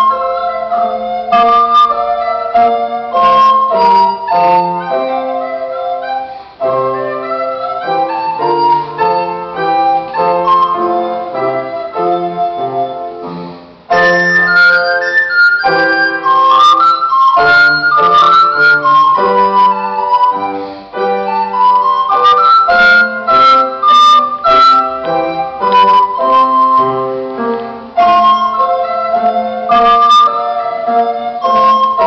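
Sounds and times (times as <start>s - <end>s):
piano accompaniment: 0.0s - 32.0s
recorder playing a melody: 0.0s - 32.0s.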